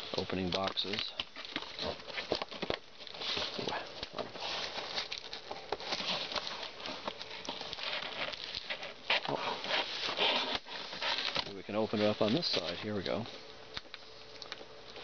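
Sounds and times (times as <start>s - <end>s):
cardboard scraping and rustling: 0.0s - 13.3s.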